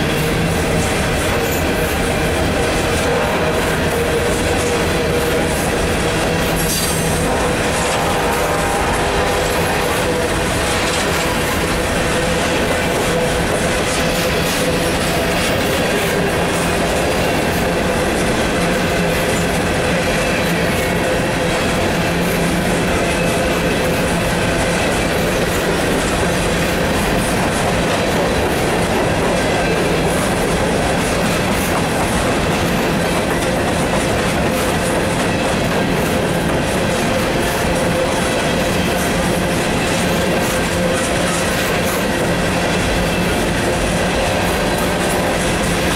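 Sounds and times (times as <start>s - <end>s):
clicking clatter of train wheels: 0.0s - 45.9s
freight train rolling past: 0.0s - 45.9s.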